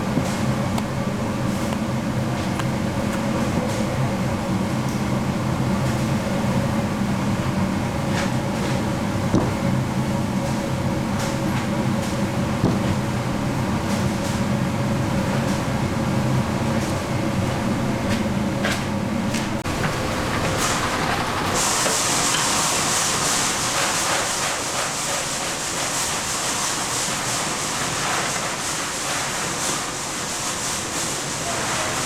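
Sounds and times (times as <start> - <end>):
factory machinery droning: 0.0 - 32.0.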